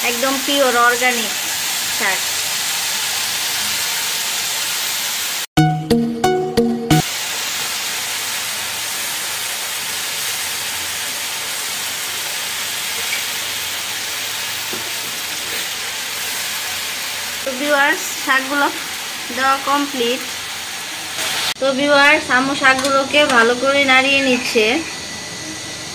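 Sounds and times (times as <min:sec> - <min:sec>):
vegetables sizzling in oil: 0:00.0 - 0:05.5, 0:07.0 - 0:25.9.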